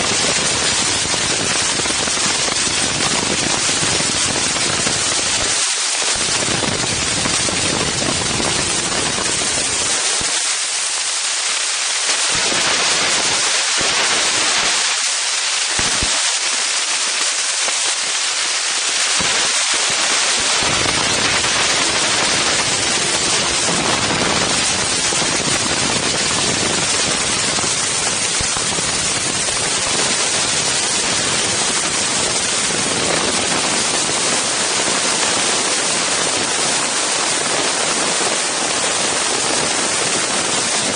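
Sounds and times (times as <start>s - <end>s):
wind noise on microphone: 0.0s - 40.9s.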